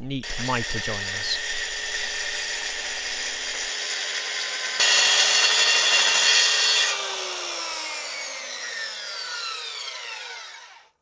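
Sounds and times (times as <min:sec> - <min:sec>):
circular saw cutting wood: 0:00.2 - 0:11.0
saw motor winding down: 0:00.2 - 0:11.0.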